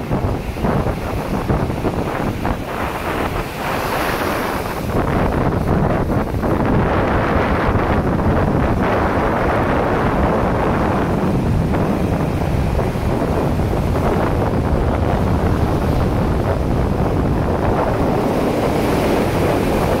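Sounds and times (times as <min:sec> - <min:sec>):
ocean surf breaking on beach: 0:00.0 - 0:20.0
wind buffeting microphone: 0:00.0 - 0:20.0.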